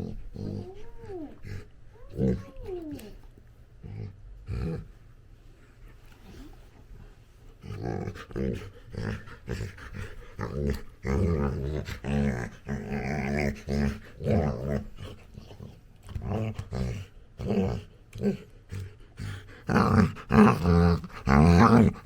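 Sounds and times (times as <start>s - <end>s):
puppy growling: 0.0s - 5.0s, 7.6s - 22.0s.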